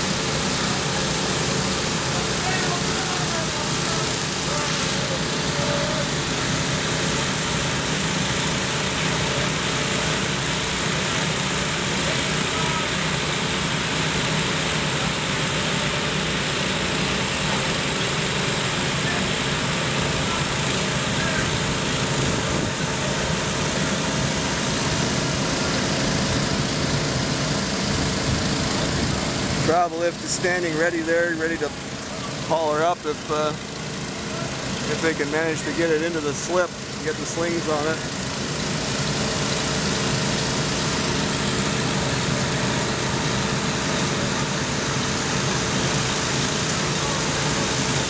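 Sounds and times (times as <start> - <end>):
dewatering pumps running: 0.0 - 48.0.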